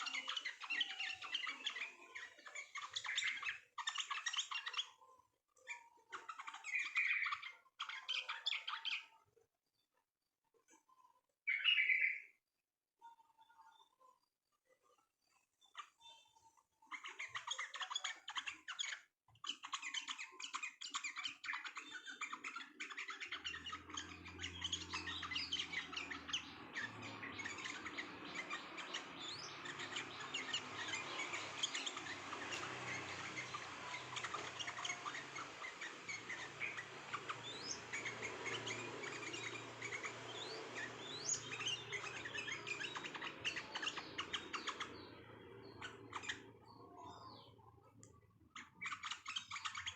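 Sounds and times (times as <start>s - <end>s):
birds chirping in chorus: 0.0s - 5.0s, 5.6s - 9.3s, 11.5s - 12.4s, 15.3s - 49.9s.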